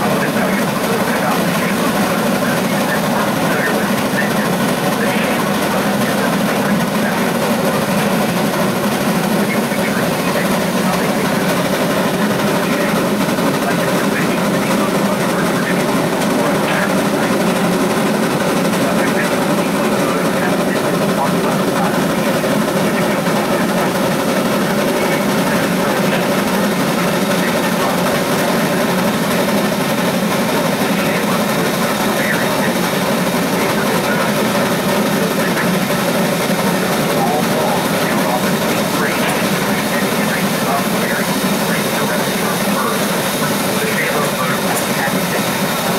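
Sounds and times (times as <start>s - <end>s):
steam locomotive working under load: 0.0s - 45.9s.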